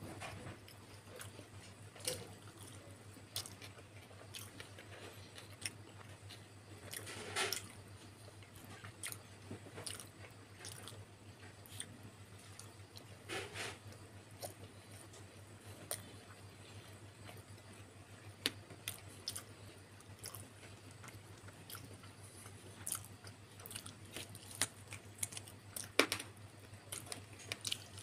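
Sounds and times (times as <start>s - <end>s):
low steady hum: 0.0s - 28.0s
wet chewing: 0.6s - 13.2s, 13.9s - 26.0s, 26.6s - 28.0s.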